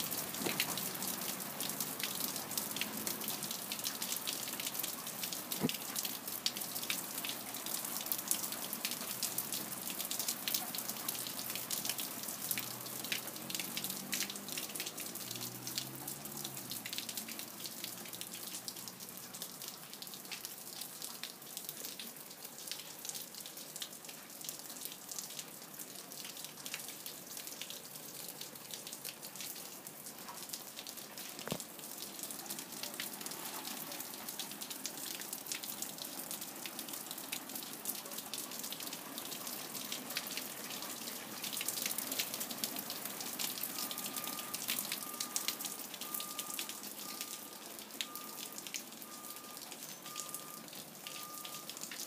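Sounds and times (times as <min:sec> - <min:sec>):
water dripping on wood and shrubs: 0:00.0 - 0:52.0.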